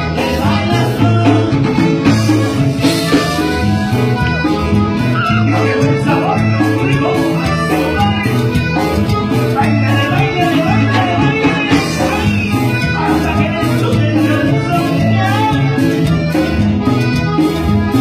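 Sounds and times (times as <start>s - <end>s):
latin dance-band music: 0.0s - 18.0s.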